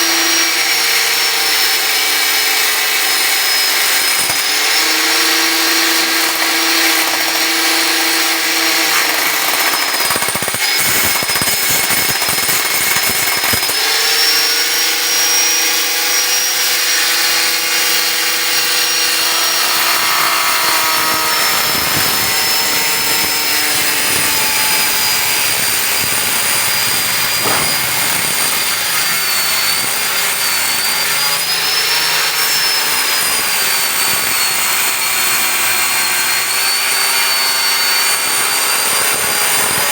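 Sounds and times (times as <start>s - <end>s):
angle grinder cutting metal: 0.0s - 39.9s.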